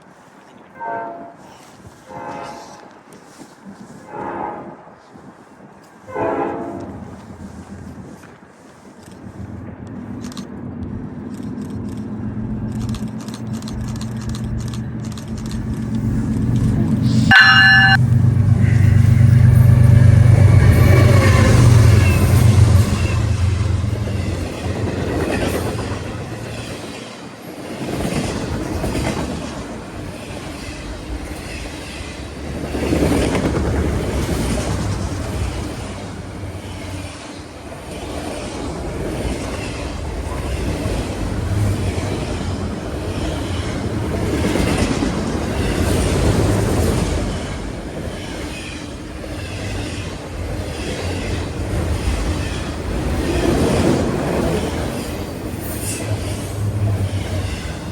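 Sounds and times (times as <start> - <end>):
railcars rumbling: 0.0 - 57.9
train wheels clicking over rail joints: 6.8 - 57.9.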